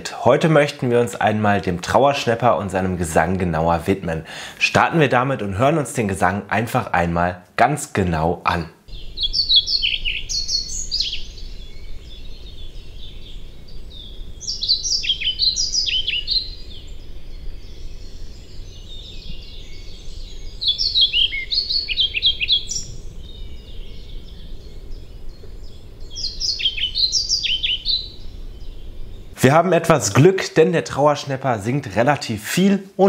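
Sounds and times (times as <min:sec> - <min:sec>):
bird singing rhythmic phrases: 0:00.0 - 0:33.0.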